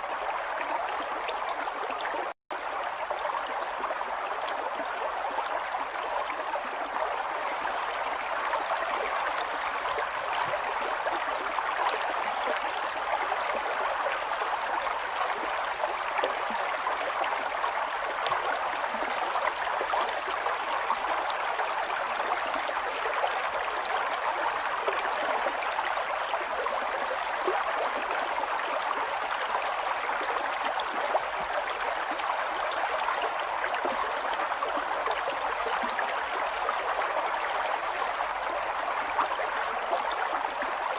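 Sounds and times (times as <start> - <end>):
stream flowing with splashing: 0.0 - 40.9.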